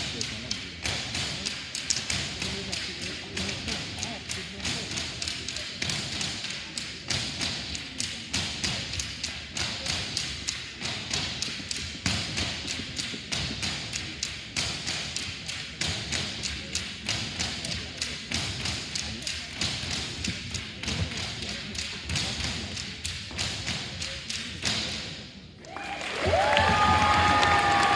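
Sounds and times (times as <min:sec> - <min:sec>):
wooden poles tapping floor: 0:00.0 - 0:27.9.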